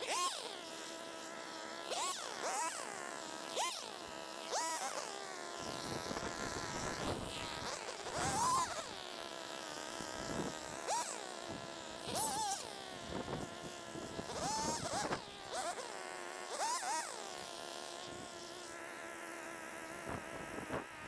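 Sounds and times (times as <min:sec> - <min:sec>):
two-stroke engine idling and revving: 0:00.0 - 0:18.0.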